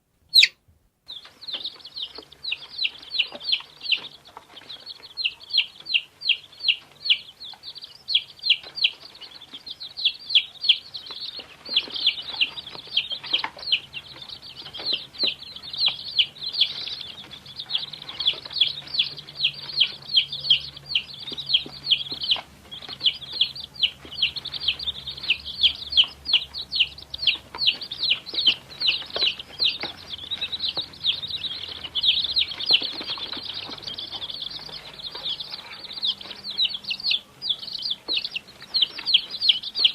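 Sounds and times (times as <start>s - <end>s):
baby chicks peeping: 0.2s - 39.9s.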